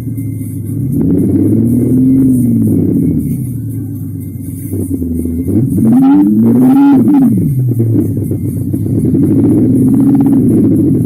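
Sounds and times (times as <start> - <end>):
synthetic engine drone: 0.0 - 11.0.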